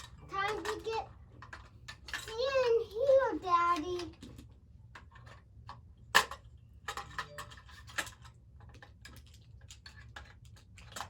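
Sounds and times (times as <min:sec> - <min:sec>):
toy railway pieces clicking: 0:00.0 - 0:11.0.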